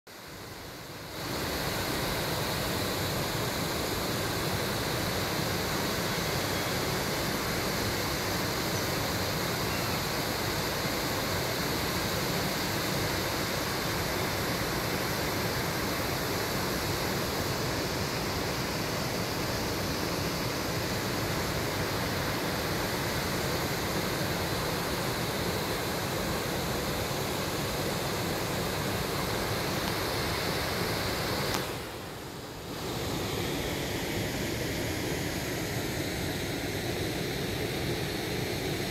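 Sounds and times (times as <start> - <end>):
waterfall rushing: 0.4 - 38.9.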